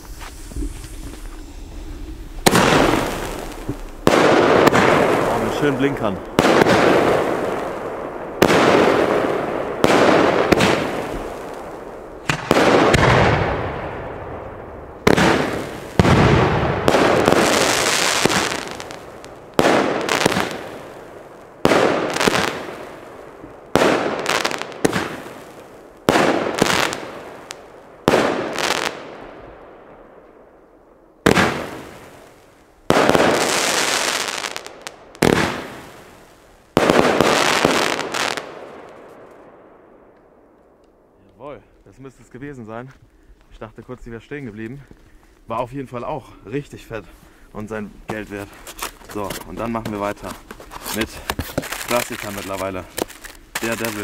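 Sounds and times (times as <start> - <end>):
firework bangs with hiss: 0.0 - 29.4, 31.2 - 39.2, 48.0 - 54.0.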